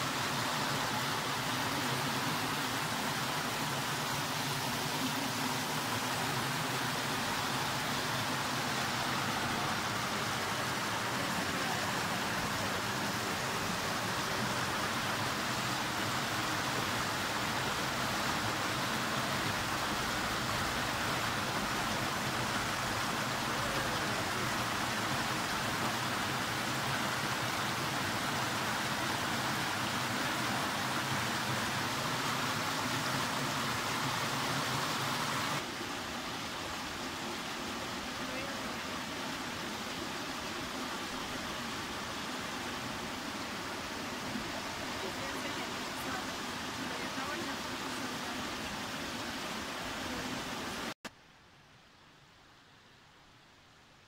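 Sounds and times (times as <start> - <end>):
stream rushing over stones: 0.0 - 51.2.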